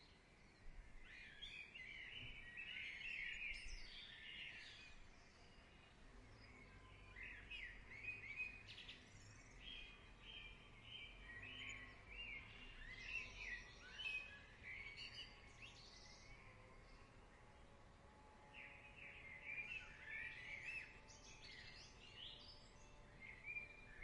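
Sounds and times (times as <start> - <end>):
faint background noise: 0.0 - 24.0
faint birdsong: 0.0 - 24.0.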